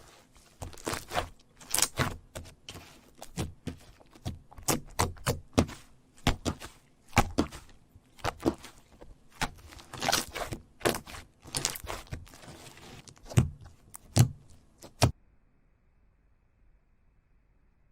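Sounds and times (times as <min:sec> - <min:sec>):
slime popping and crackling: 0:00.5 - 0:15.1.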